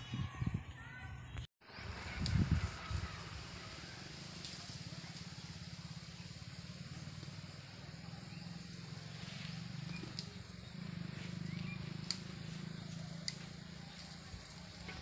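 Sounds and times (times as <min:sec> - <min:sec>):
outdoor hiss: 0:01.6 - 0:15.0
engine running: 0:01.9 - 0:15.0.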